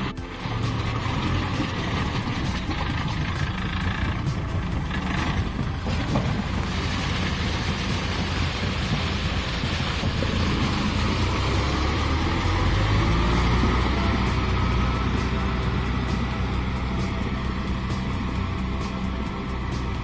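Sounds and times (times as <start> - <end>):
tiller splashing through mud: 0.0 - 20.0
tractor diesel engine running: 0.0 - 20.0.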